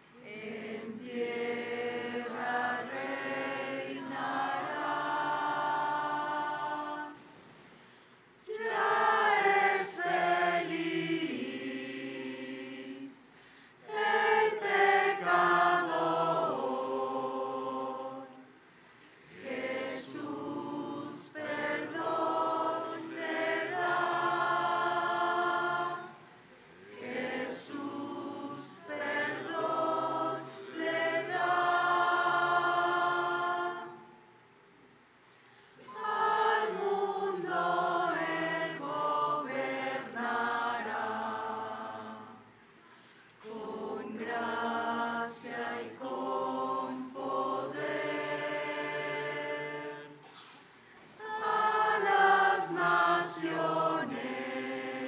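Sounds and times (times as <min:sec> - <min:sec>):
choir singing: 0:00.0 - 0:07.3, 0:08.4 - 0:18.7, 0:19.3 - 0:34.4, 0:35.8 - 0:42.6, 0:43.4 - 0:50.5, 0:51.2 - 0:55.0.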